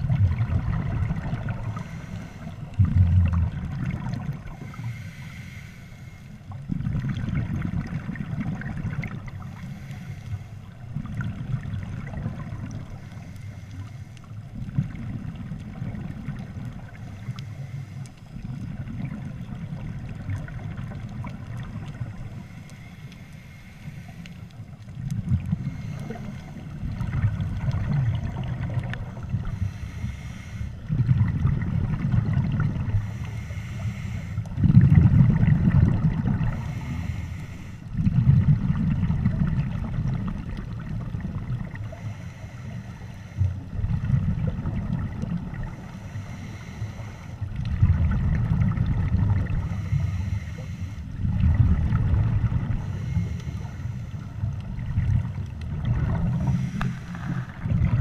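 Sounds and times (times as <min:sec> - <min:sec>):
underwater regulator bubbles: 0:00.0 - 0:05.1, 0:06.5 - 0:10.0, 0:10.8 - 0:13.4, 0:14.5 - 0:58.0.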